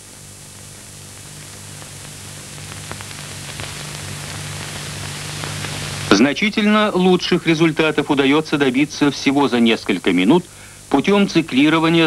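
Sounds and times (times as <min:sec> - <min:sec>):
film soundtrack hiss: 0:00.0 - 0:12.0
low mains hum: 0:00.0 - 0:12.0.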